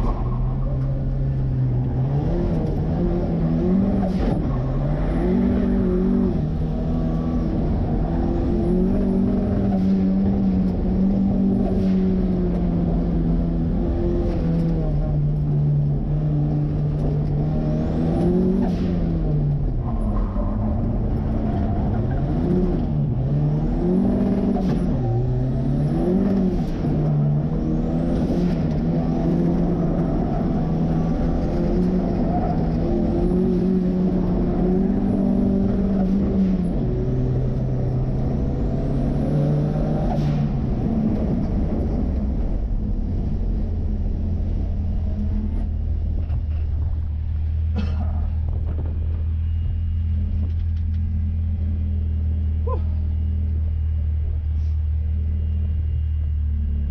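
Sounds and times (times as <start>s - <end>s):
car engine revving: 0.0s - 46.7s.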